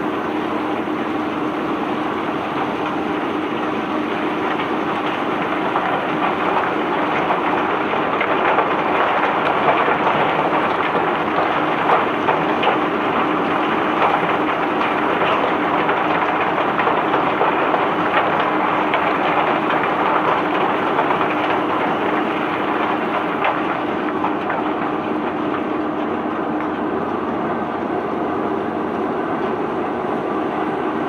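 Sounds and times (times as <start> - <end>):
faint machinery hum: 0.0 - 31.0.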